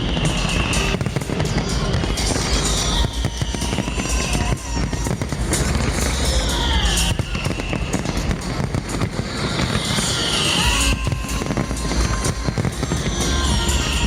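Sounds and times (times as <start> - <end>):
fireworks bangs and crackling: 0.0 - 14.0
fireworks falling whistles: 0.0 - 14.0
music: 0.0 - 14.0.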